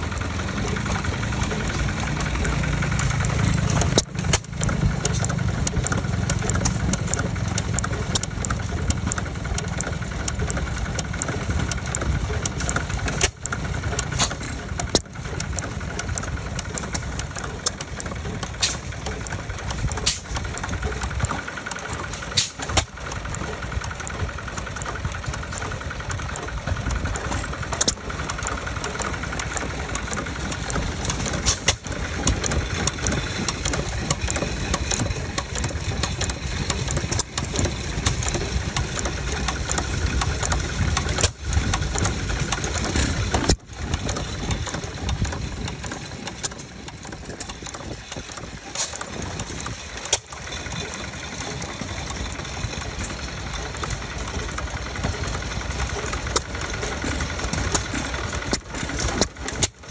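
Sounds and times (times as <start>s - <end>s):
engine clattering: 0.0s - 59.9s.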